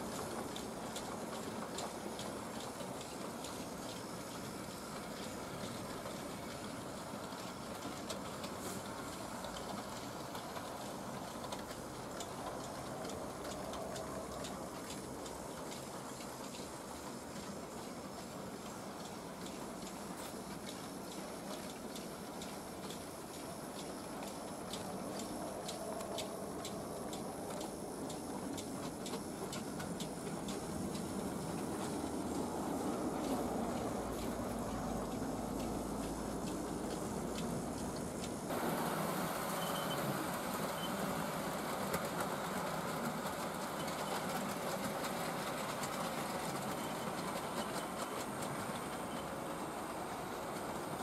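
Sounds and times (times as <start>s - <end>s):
model train motor whirring: 0.0s - 51.0s
wheels clicking over rail joints: 0.0s - 51.0s.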